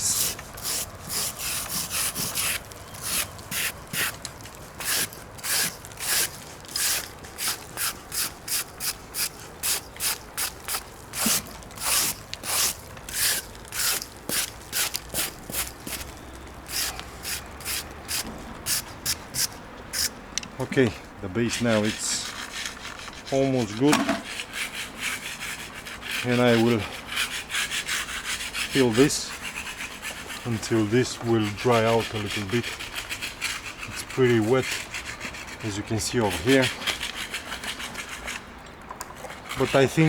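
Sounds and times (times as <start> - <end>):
hand tool scraping cement wall: 0.0 - 20.2, 21.4 - 40.0.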